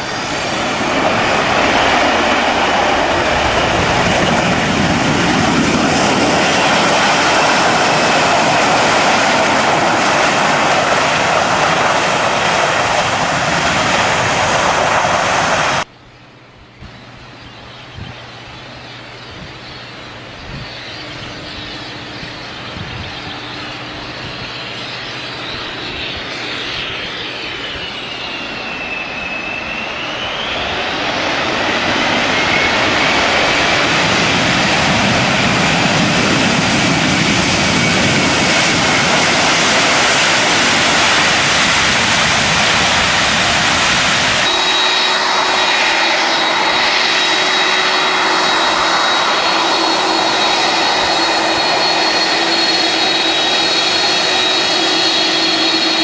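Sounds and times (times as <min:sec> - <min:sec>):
engine high whine: 0:00.0 - 0:56.0
jet engines roaring: 0:00.0 - 0:56.0.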